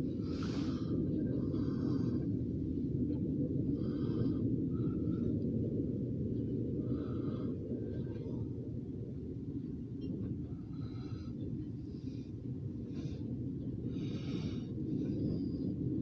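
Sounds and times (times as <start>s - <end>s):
low rumble inside vehicle cabin: 0.0s - 16.0s.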